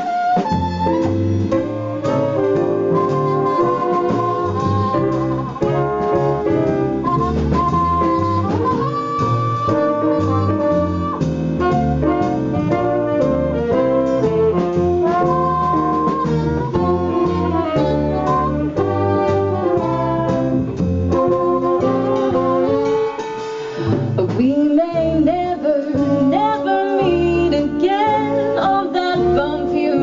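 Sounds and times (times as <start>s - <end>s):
horn melody: 0.0s - 24.0s, 25.4s - 30.0s
drums: 0.0s - 30.0s
walking bass: 0.0s - 30.0s.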